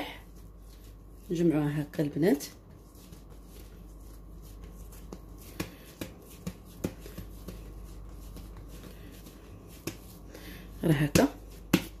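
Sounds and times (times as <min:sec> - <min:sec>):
hands rubbing dough: 0:00.0 - 0:12.0
light slaps and pats on dough: 0:00.2 - 0:12.0.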